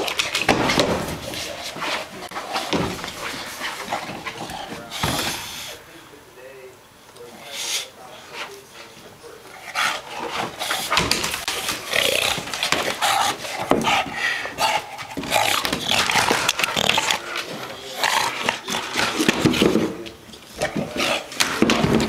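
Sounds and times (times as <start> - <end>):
dog breathing and grunting: 0.0 - 5.9, 7.3 - 22.0.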